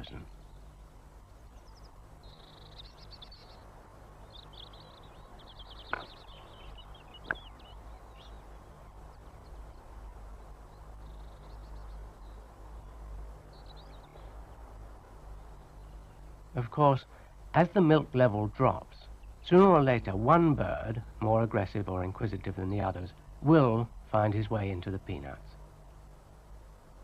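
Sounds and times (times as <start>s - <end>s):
birds chirping and trilling: 0.0s - 27.0s
low steady hum: 0.0s - 27.0s.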